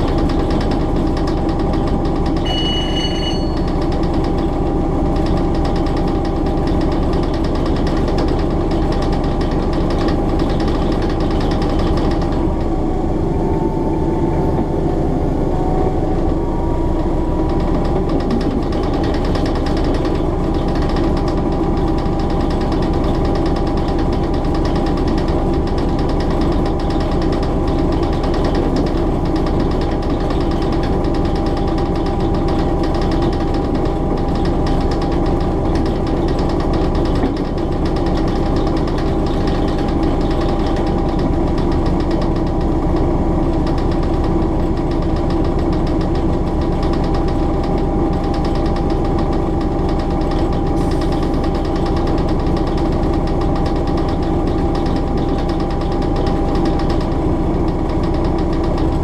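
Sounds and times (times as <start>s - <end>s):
diesel engine thumping: 0.0s - 59.0s.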